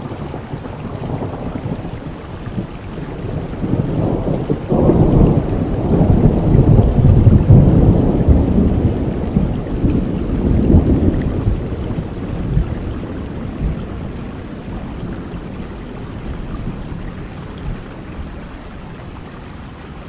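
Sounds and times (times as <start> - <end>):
rolling thunder: 0.0 - 19.2
steady rain: 0.0 - 20.0.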